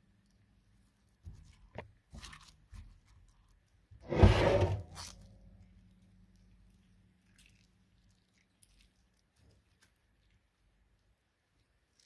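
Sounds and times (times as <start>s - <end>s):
crunchy slime squish: 0.0s - 12.0s
slime squelching: 0.0s - 12.0s.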